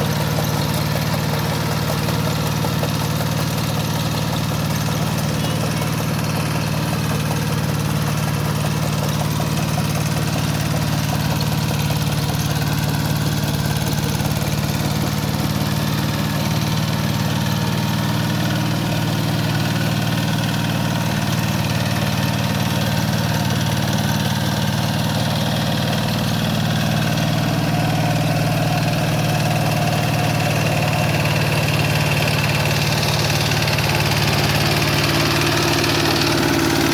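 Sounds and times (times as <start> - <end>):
diesel tiller engine running: 0.0 - 36.9.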